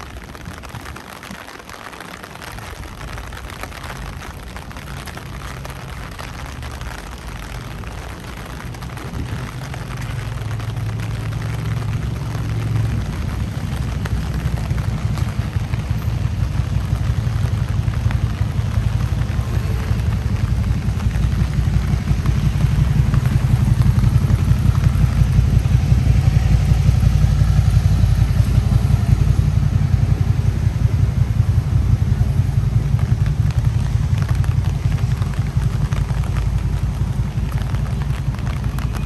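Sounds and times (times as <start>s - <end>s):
rain on street: 0.0s - 39.0s
low rumble: 2.4s - 39.0s.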